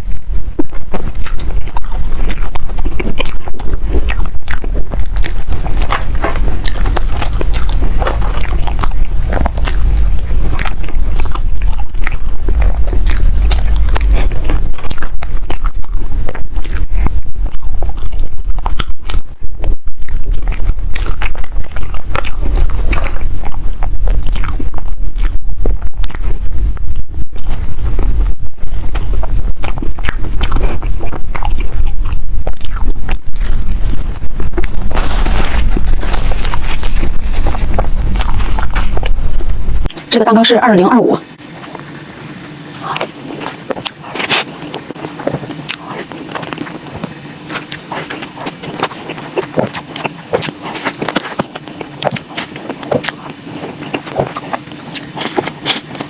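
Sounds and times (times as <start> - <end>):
person chewing food: 0.0 - 40.1, 40.9 - 56.0
mouth clicks and smacks: 0.0 - 40.2, 42.8 - 56.0.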